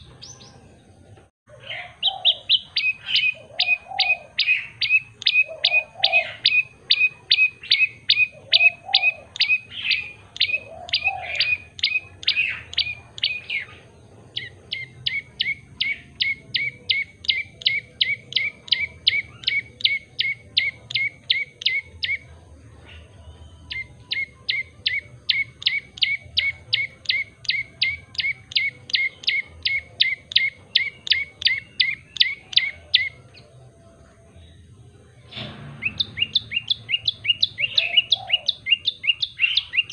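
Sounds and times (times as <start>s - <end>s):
bird chirping sharply: 2.0s - 33.4s, 35.2s - 39.9s.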